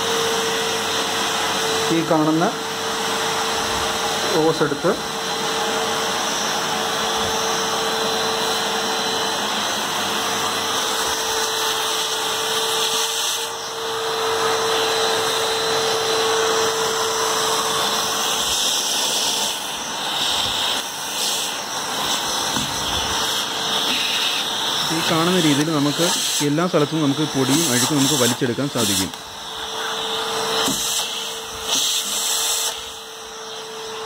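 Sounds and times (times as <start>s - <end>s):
vacuum cleaner whooshing hum: 0.0s - 34.0s.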